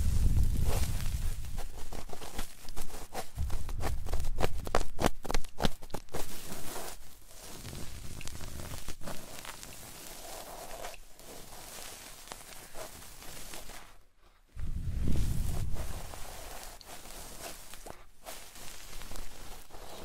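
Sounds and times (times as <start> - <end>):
rustling and crackling: 0.0 - 20.0.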